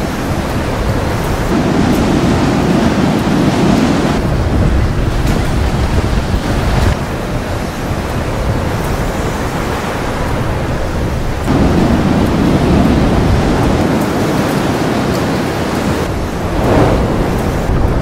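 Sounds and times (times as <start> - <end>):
waves breaking against hulls: 0.0 - 18.0
wind buffeting microphone: 0.0 - 18.0.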